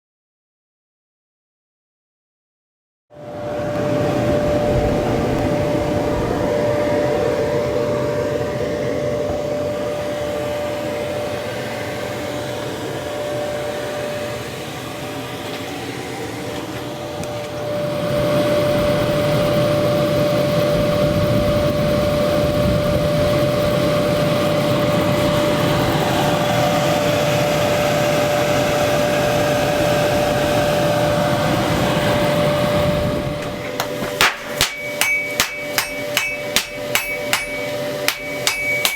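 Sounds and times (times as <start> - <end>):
forge air blower rushing: 3.2 - 38.9
motor whine: 3.2 - 38.9.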